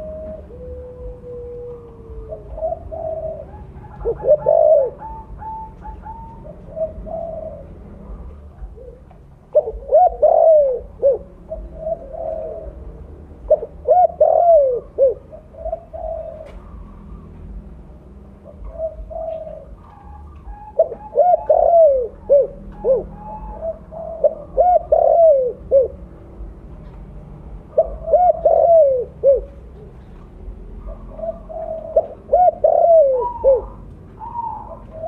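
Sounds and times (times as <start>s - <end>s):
dove cooing: 0.0s - 26.1s, 26.8s - 35.0s.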